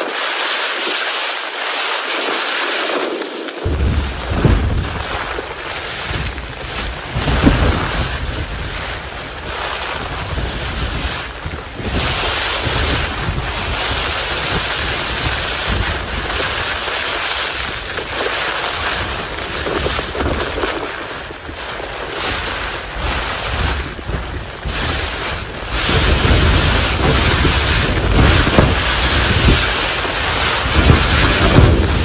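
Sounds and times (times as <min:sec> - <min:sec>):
strong wind buffeting a tent: 0:00.0 - 0:32.0.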